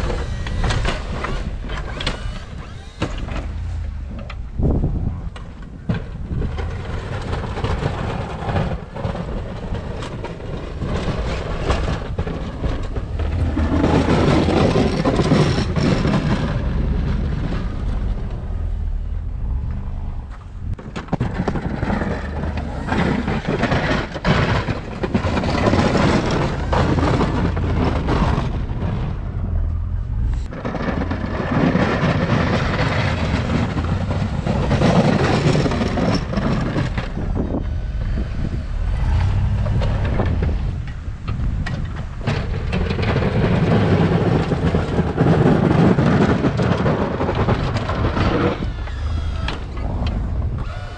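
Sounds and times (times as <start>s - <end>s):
plow blade scraping snow: 0.0s - 19.6s, 20.3s - 50.9s
truck engine rumbling: 0.0s - 50.9s.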